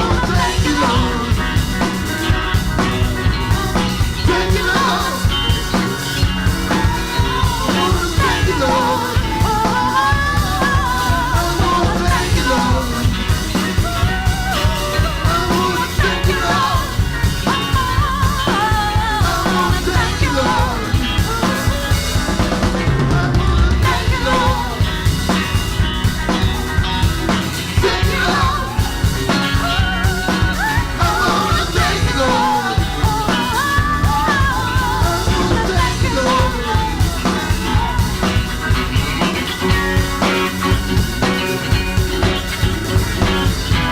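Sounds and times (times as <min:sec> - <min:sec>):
drum kit beat: 0:00.0 - 0:43.9
live rock band playing: 0:00.0 - 0:43.9
wavering melodic lead line: 0:00.0 - 0:43.9.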